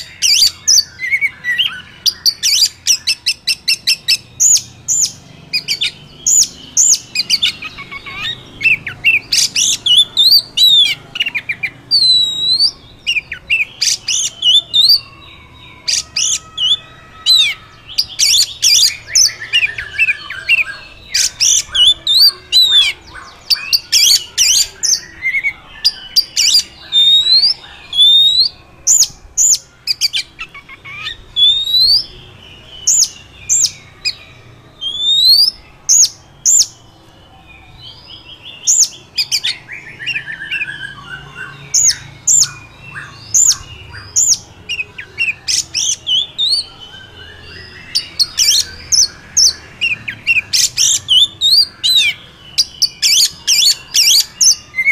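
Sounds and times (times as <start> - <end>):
bird singing whistled song: 0.0 - 54.9.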